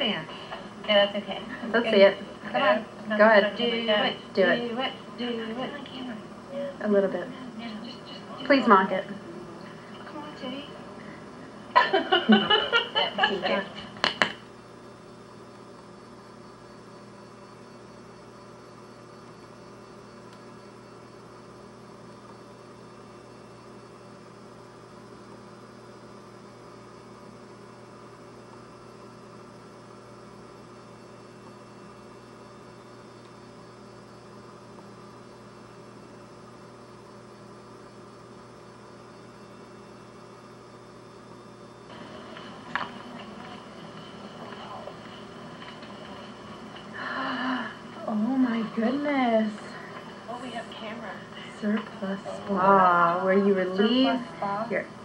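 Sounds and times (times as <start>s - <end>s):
faint electrical hum: 0.0s - 55.0s.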